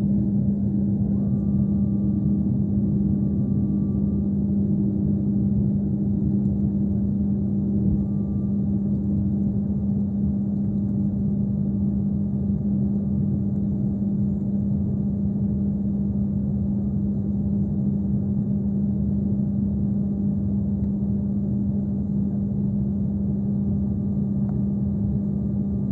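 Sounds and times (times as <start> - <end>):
airliner cabin drone: 0.0 - 25.9
faint high whine: 0.0 - 25.9.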